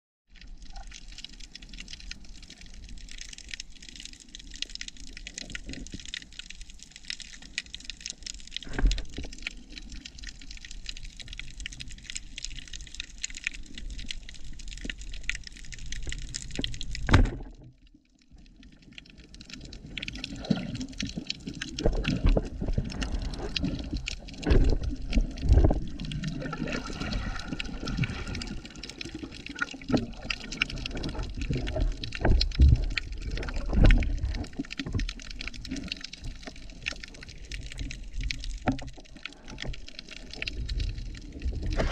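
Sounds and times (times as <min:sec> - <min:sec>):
underwater crackling: 0:00.3 - 0:41.9.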